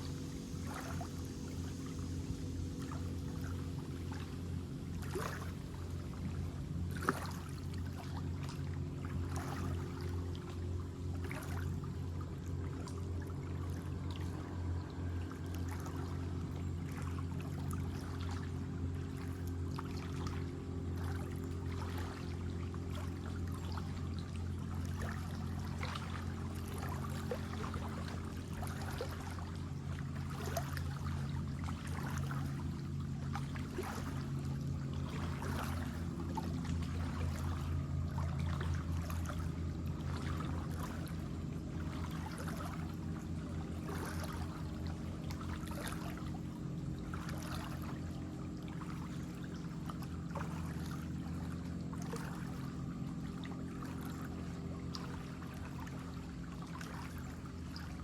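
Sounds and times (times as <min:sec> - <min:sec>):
shallow water flowing: 0:00.0 - 0:58.0
steady low hum: 0:00.0 - 0:58.0
water splashes: 0:00.0 - 0:58.0.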